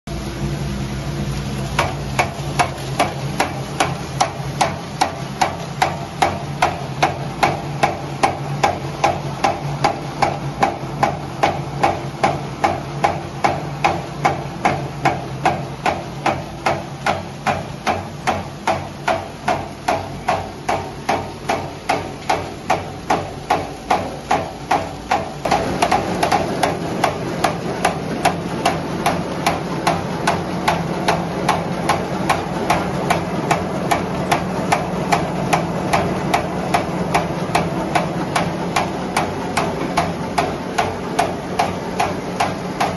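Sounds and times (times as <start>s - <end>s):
mechanical knocking: 1.7s - 42.9s.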